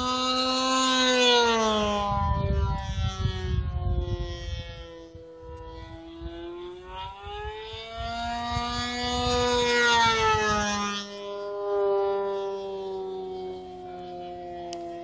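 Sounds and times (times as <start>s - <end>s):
model plane engine screaming past: 0.0s - 15.0s
wind buffeting microphone: 1.0s - 15.0s.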